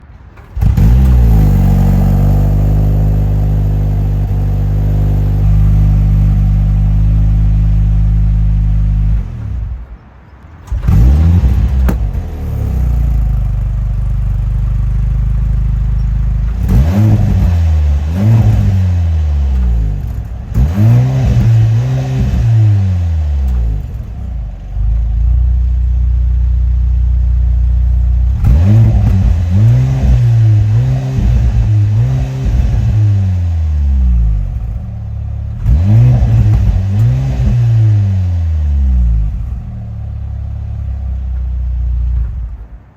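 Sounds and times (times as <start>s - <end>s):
engine revving in throttle blips: 0.0s - 42.8s
car engine idling: 0.0s - 42.9s.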